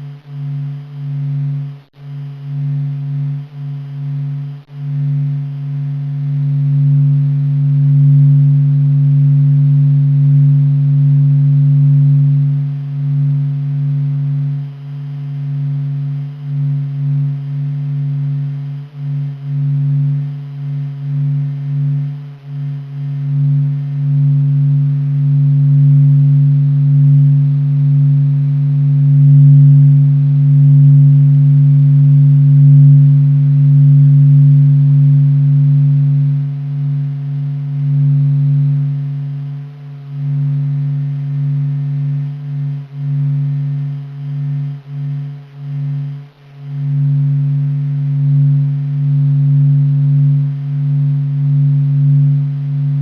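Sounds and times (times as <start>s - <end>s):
faint higher tone: 0.0s - 53.0s
low steady hum: 0.0s - 53.0s.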